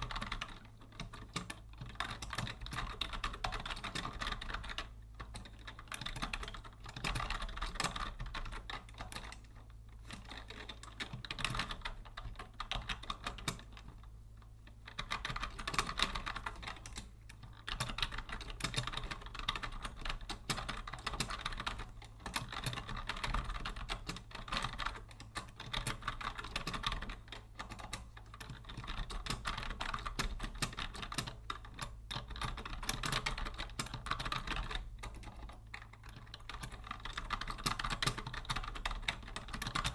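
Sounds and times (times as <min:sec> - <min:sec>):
keyboard typing clatter: 0:00.0 - 0:14.1, 0:14.8 - 0:39.9.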